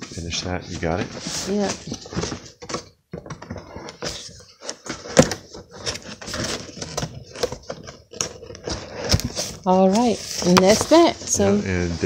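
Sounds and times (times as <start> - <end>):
cardboard box scraping and rustling: 0.4 - 2.6, 3.5 - 12.0.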